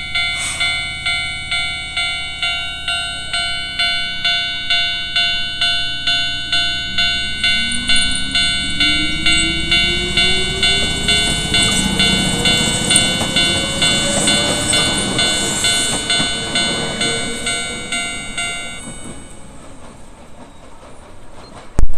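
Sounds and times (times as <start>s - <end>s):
level crossing bell ringing: 0.0s - 19.8s
electric train motor whine: 0.0s - 20.1s
train wheel noise: 0.0s - 21.9s.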